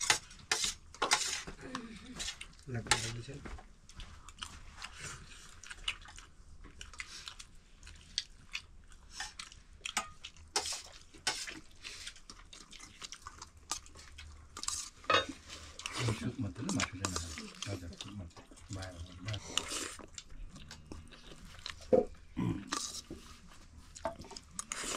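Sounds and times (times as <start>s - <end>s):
people chewing food: 0.0s - 24.9s.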